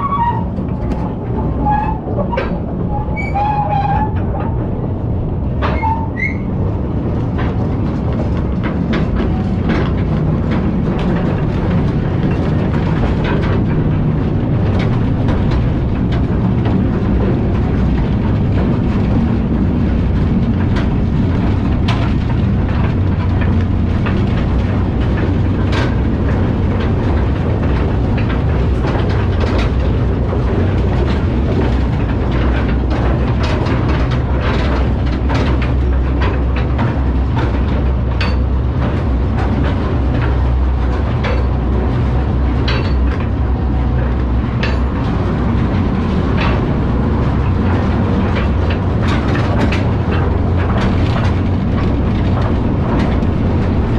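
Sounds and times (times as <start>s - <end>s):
mine trolley train rumbling: 0.0s - 53.9s
wheels clicking and clanking: 0.0s - 53.9s.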